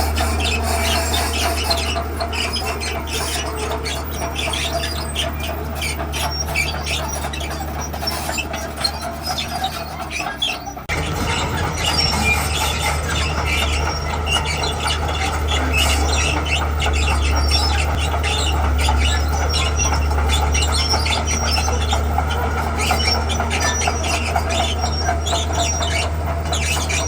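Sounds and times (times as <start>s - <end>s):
diesel engine drone: 0.0s - 27.0s
steel tracks squeaking and clicking: 0.0s - 27.0s.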